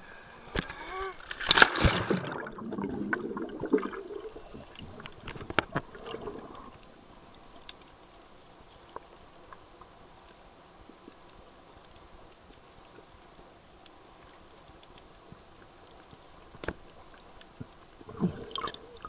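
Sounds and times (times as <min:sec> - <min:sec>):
faint steady hiss: 0:00.0 - 0:19.0
water sloshing underwater: 0:00.0 - 0:19.0.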